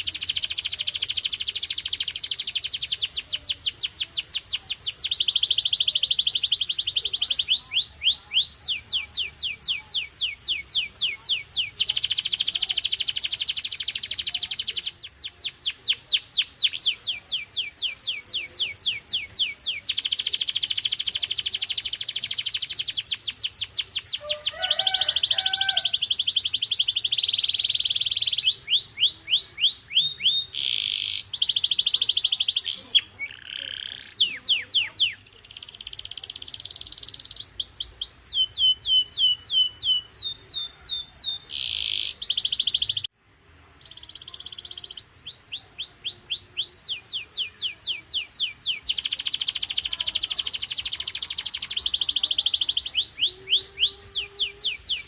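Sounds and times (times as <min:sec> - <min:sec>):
canary singing trills: 0:00.0 - 0:43.1, 0:43.8 - 0:55.0.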